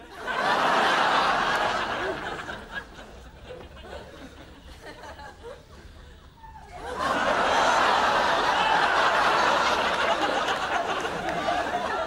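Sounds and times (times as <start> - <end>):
studio audience laughter: 0.0 - 12.0.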